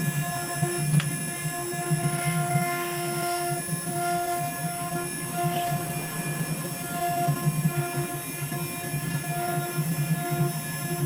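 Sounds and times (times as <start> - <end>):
high spindle whine: 0.0 - 11.0
stepper motors whining: 0.0 - 11.0.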